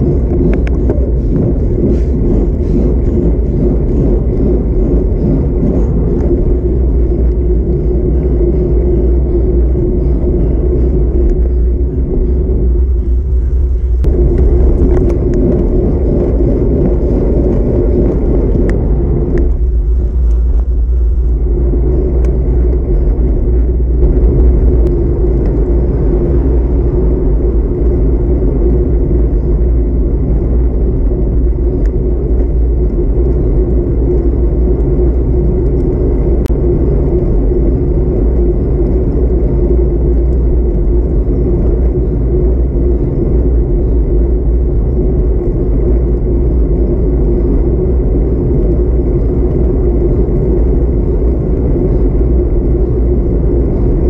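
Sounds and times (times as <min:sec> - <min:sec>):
tyres humming on asphalt: 0:00.0 - 0:54.0
wind rumbling on microphone: 0:00.0 - 0:54.0.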